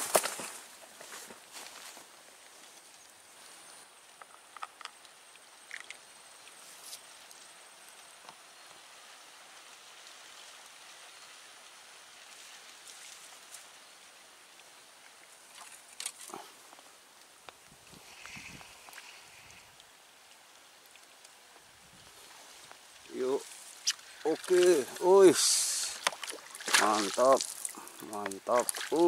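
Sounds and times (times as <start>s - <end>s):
soft steady hiss: 0.0s - 29.0s.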